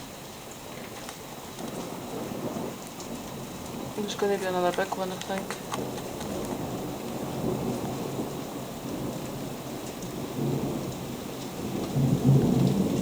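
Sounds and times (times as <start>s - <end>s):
heavy rain falling: 0.0s - 13.0s
thunder rumbling: 1.4s - 13.0s.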